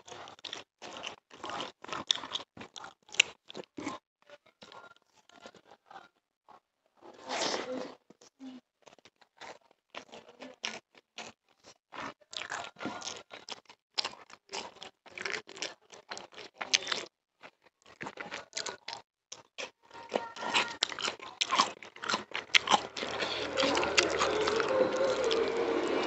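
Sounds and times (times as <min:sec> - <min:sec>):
chewing with mouth clicks: 0:00.0 - 0:06.6, 0:08.1 - 0:26.0.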